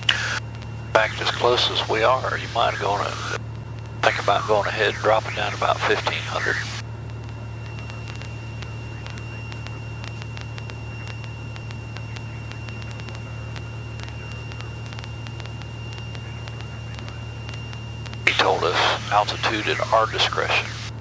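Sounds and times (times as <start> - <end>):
airplane engine drone: 0.0 - 21.0
faint high whine: 0.0 - 21.0.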